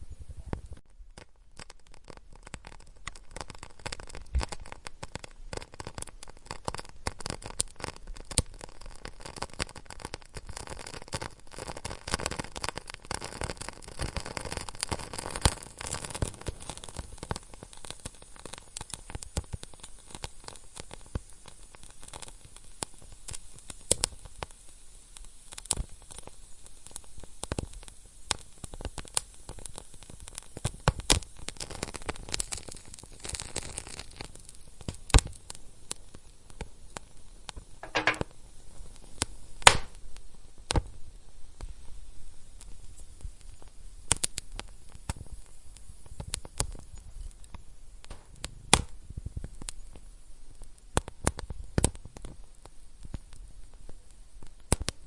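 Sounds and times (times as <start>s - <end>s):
low hiss: 0.0s - 55.0s
wood fire crackling: 0.0s - 55.0s
sharp pops of fire: 0.2s - 55.0s.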